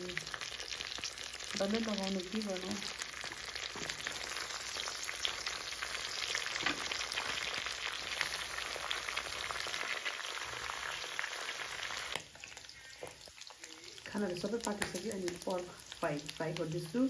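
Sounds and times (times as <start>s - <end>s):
meat and greens sizzling in fat: 0.0s - 17.0s.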